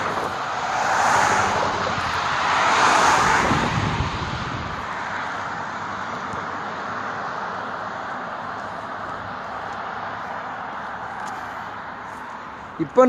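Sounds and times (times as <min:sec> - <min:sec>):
vehicle passing by: 0:00.0 - 0:12.2
traffic hum: 0:00.0 - 0:13.0.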